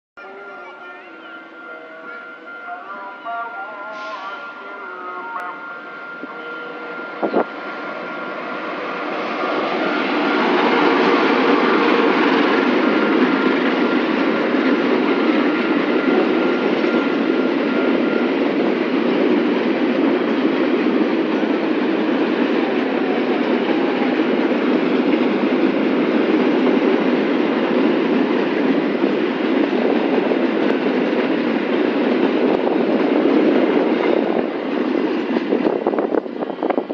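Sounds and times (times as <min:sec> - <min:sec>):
rumble of locomotive and wheels: 0:00.2 - 0:36.9.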